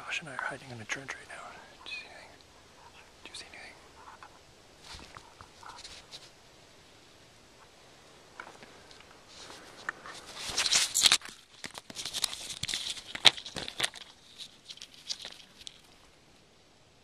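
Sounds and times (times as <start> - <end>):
dry branches rustling and crackling: 0.0 - 6.5, 8.0 - 16.2.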